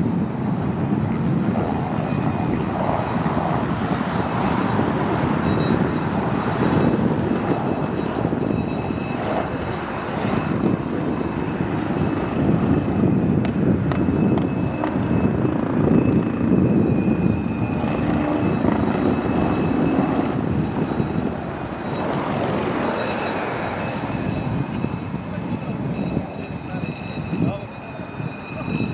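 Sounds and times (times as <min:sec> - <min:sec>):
helicopter rotor and engine rumble: 0:00.0 - 0:28.9
high turbine whine: 0:00.0 - 0:28.9.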